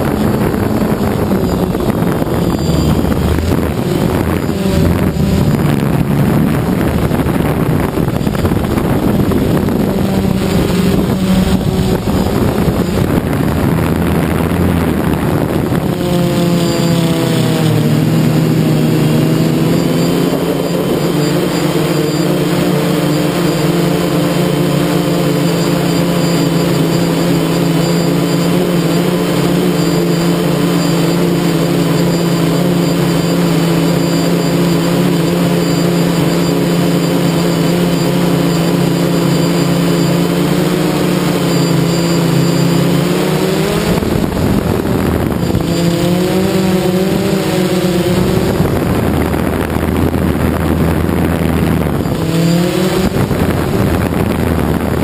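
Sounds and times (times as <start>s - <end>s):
drone propellers whirring: 0.0s - 55.0s.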